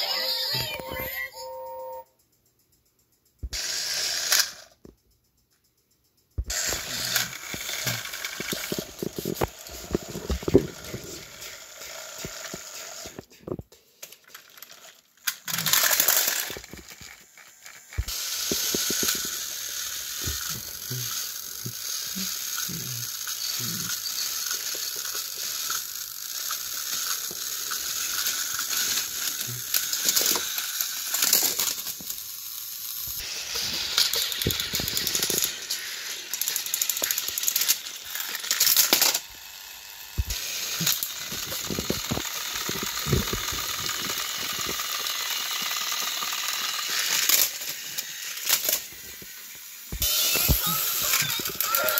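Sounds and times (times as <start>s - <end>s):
toy train motors whirring: 0.0s - 1.7s, 3.2s - 51.9s.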